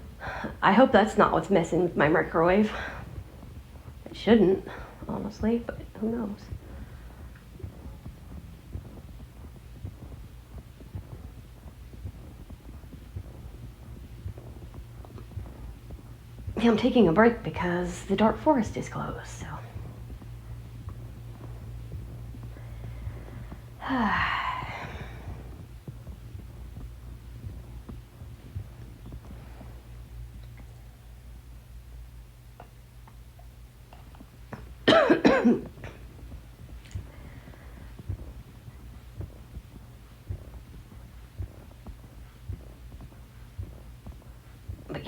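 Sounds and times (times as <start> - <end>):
steady low hum: 0.0 - 45.0
soft regular thump: 4.7 - 31.7, 32.6 - 45.0.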